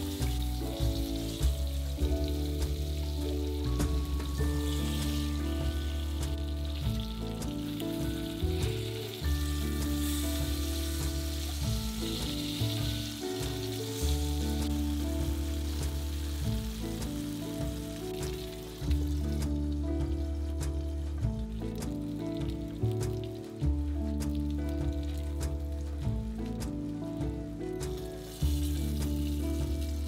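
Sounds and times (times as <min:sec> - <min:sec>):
background music: 0:00.0 - 0:30.0
fish sizzling in oil: 0:00.0 - 0:30.0.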